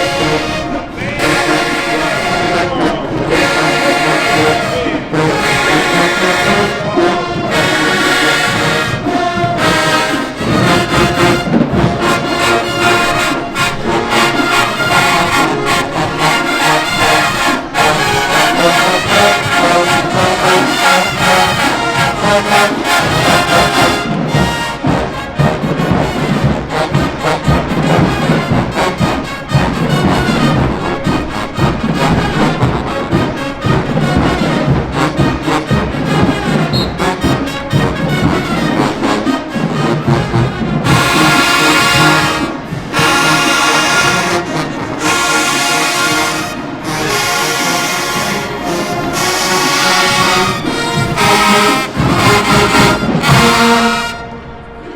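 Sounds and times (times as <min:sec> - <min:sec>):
marching band playing: 0:00.0 - 0:54.9.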